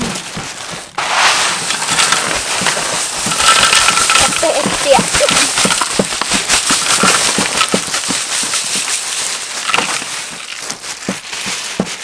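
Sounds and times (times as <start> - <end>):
crushed ice rattling onto tray: 1.0 - 11.3.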